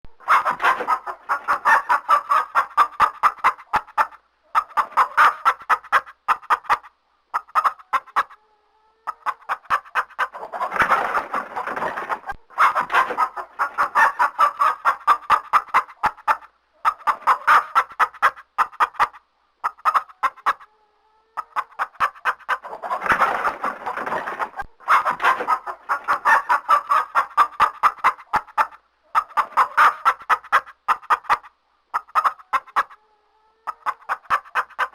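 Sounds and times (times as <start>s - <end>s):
chicken clucking: 0.1s - 34.9s
chicken squawking: 0.2s - 34.9s.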